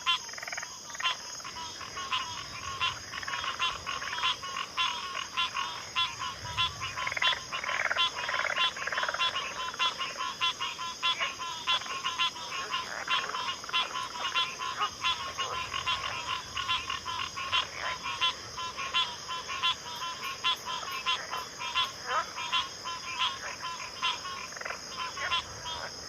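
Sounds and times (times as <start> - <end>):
frogs croaking and trilling: 0.0 - 26.0.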